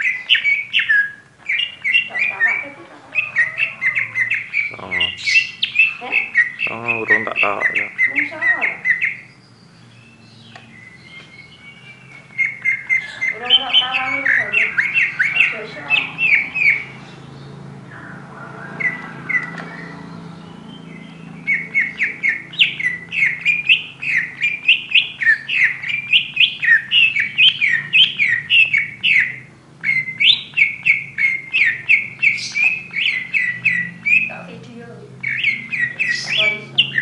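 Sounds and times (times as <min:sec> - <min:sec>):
bird singing rapid chirps: 0:00.0 - 0:37.0.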